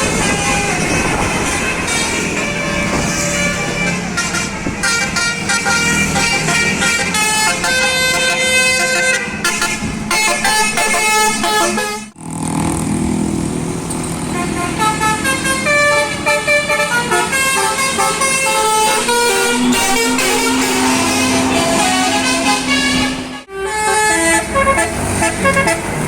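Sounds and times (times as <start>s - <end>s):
multi-tone bus air horns: 0.0s - 12.2s, 14.2s - 26.0s.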